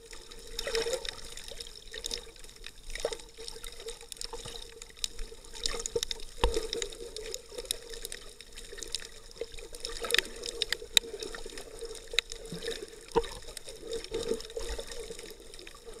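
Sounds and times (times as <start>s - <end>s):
muffled underwater water movement: 0.0s - 16.0s.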